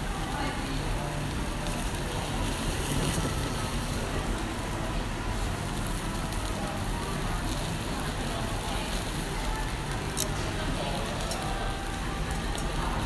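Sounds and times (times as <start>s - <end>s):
fish sizzling on a grill: 0.0s - 13.0s.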